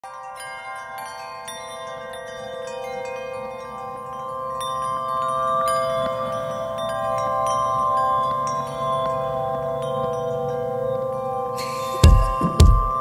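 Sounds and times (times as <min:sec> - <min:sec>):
chiming bell-like tones: 0:00.0 - 0:13.0
steady held chord: 0:01.5 - 0:13.0.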